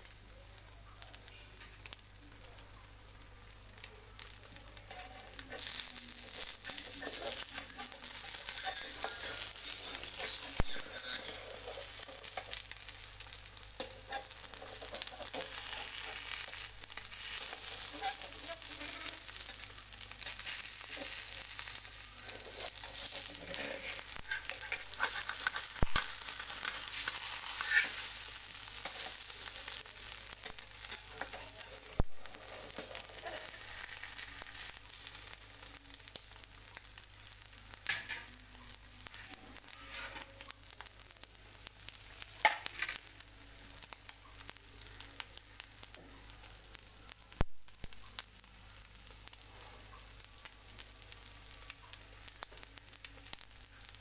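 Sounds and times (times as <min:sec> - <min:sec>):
omelette sizzling in frying pan: 0:00.0 - 0:54.0
scattered crackles: 0:00.0 - 0:54.0.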